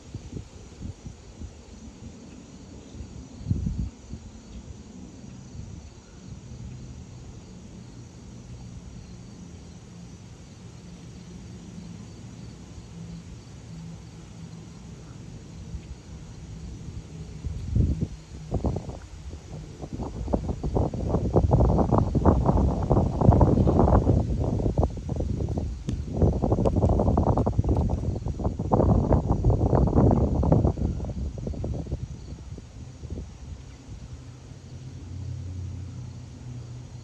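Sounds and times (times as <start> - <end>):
distant turboprop engines droning: 1.5 - 37.0.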